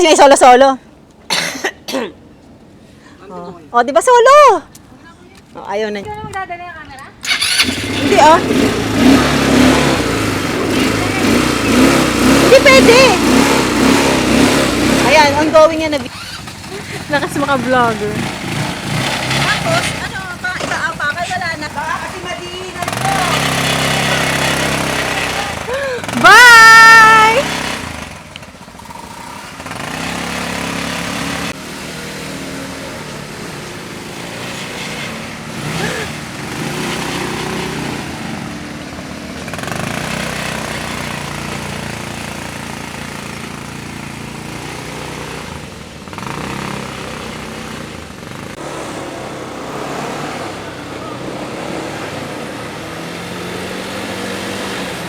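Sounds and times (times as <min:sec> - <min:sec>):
atv engine running: 0:06.0 - 0:55.0.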